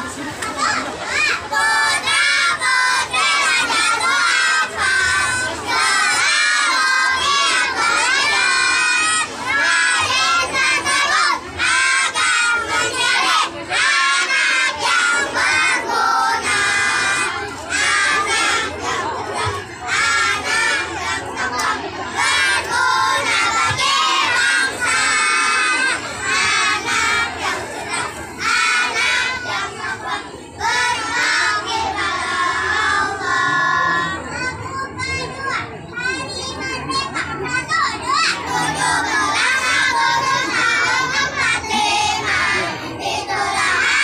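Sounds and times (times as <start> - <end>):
children's choir singing loudly: 0.0 - 44.0.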